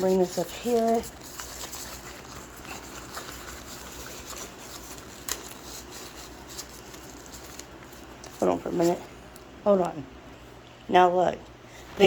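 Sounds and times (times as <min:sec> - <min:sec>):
faint handling sounds: 0:00.0 - 0:10.0
room fan humming: 0:00.0 - 0:12.0.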